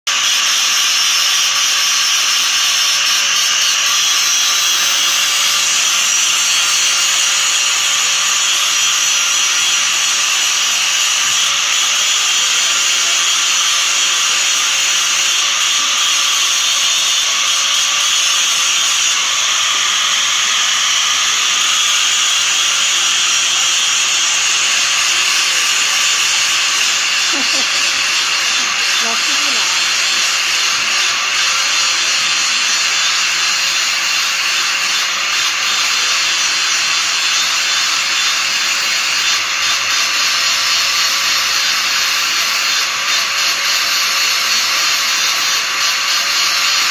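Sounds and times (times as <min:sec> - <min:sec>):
grinder sharpening metal: 0:00.1 - 0:46.9.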